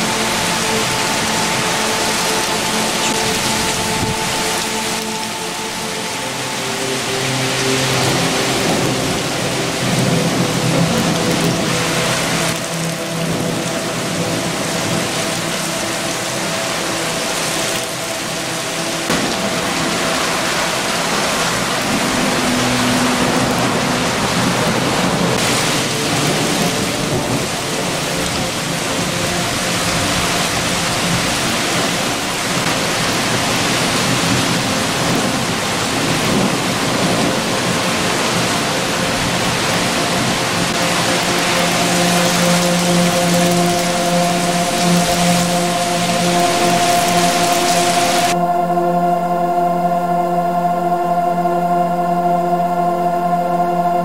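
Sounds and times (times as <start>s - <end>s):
heavy rain on leafy trees: 0.0s - 54.0s.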